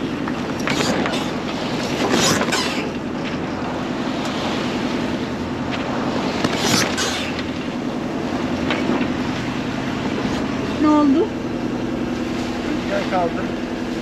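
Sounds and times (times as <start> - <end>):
rush of water: 0.0 - 14.0.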